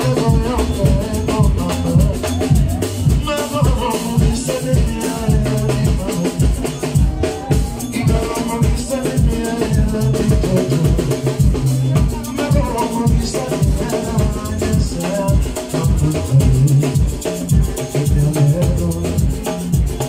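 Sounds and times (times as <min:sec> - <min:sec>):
loud dance music: 0:00.0 - 0:20.0.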